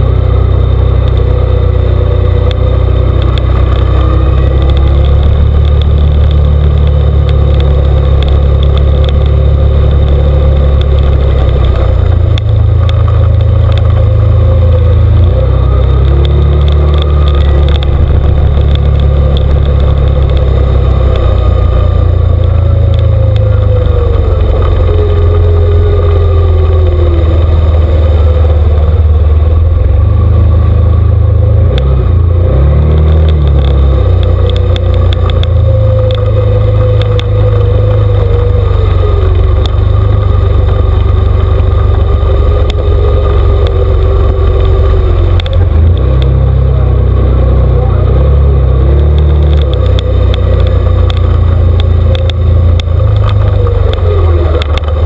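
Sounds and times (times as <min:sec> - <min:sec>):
off-road vehicle engine droning: 0:00.0 - 0:55.0.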